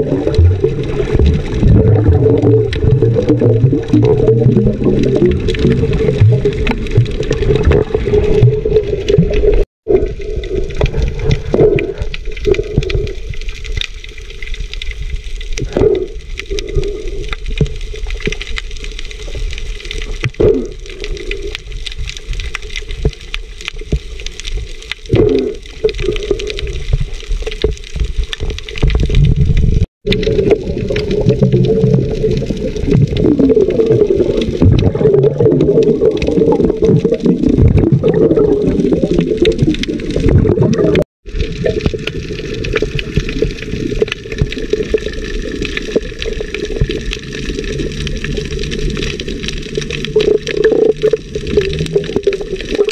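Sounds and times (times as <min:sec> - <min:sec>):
small underwater crackles: 0:00.0 - 0:52.9.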